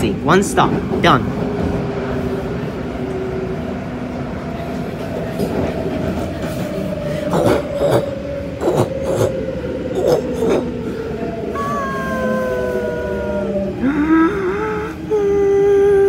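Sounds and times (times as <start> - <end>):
electric train whine: 0.0 - 16.0.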